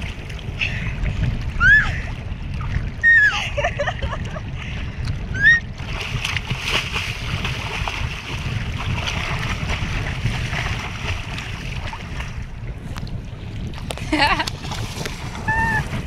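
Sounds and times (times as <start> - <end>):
water splashing around paddle: 0.0 - 3.3, 3.9 - 16.0
wind rumbling on microphone: 0.0 - 16.0.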